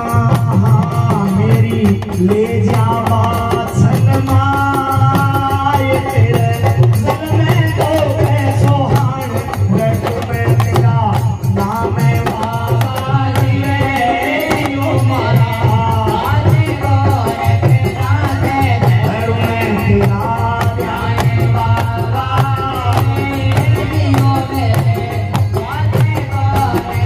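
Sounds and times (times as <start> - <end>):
man singing: 0.0 - 27.0
steady drum beat: 0.0 - 27.0.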